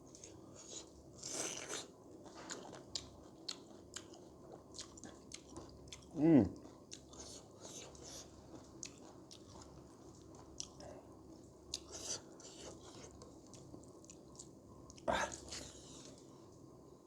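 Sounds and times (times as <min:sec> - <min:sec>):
person chewing food: 0:00.0 - 0:16.3.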